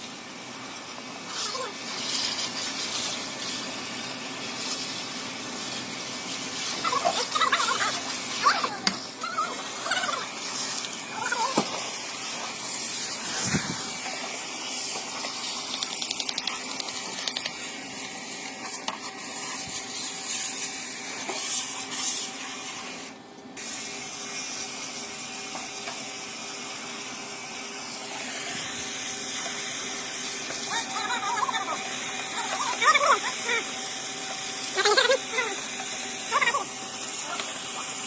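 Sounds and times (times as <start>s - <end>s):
water spray from hose: 0.0s - 38.0s.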